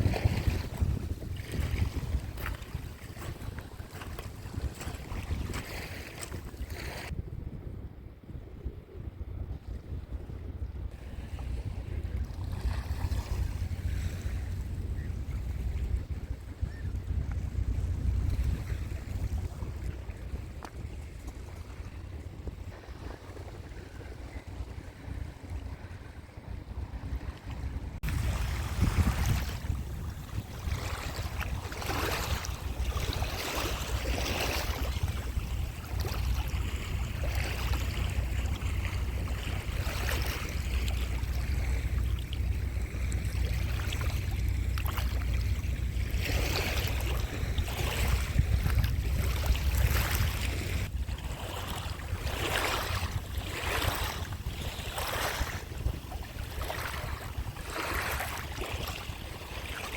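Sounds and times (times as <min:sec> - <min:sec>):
waves breaking and washing in: 0:00.0 - 0:07.2, 0:09.0 - 0:59.9
wind rumble on microphone: 0:00.0 - 0:59.9.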